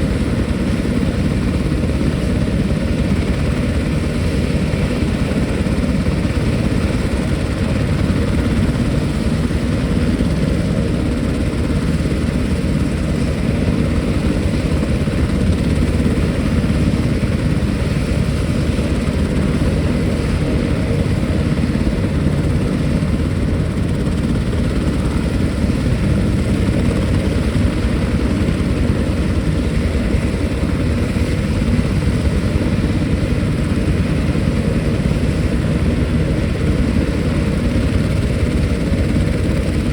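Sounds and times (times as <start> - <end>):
military helicopter running: 0.0 - 39.9.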